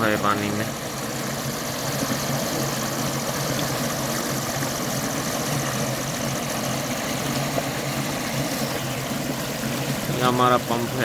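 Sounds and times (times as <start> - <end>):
tractor diesel engine running: 0.0 - 11.0
water gushing from pipe: 0.0 - 11.0.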